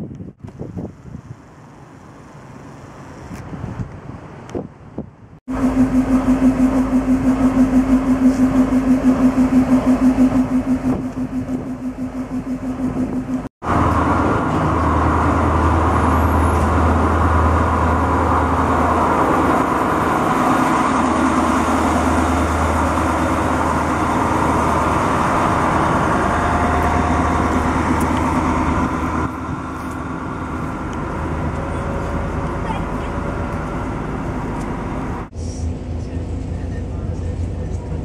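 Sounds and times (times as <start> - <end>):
diesel engine hum: 0.0 - 38.0
rumbling wheel and rail noise: 0.0 - 38.0.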